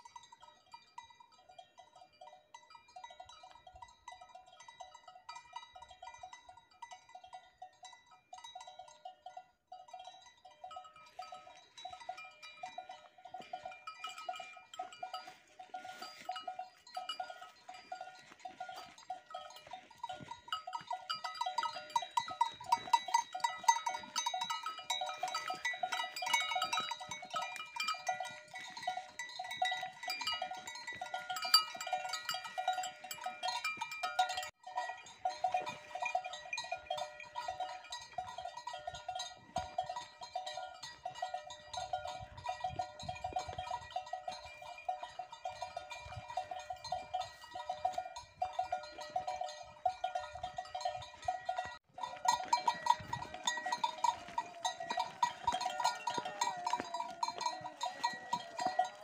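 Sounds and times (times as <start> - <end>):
cowbells clanking: 0.0 - 59.0.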